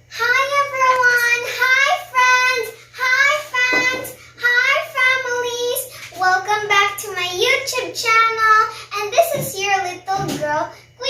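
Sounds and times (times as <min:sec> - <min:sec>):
girl singing: 0:00.1 - 0:11.0.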